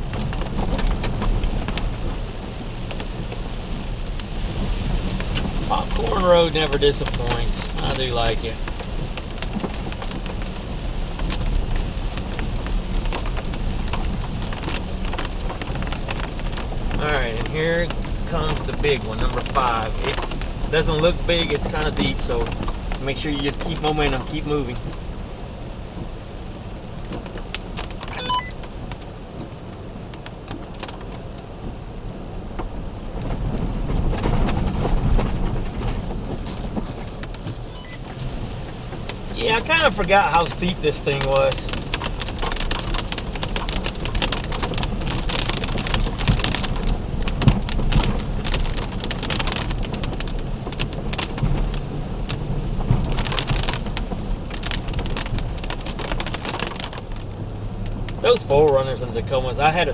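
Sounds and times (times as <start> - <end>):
raindrops pattering on vehicle: 0.0 - 59.9
vehicle rumbling on dirt road: 0.0 - 59.9
water splashing against car: 0.0 - 59.9.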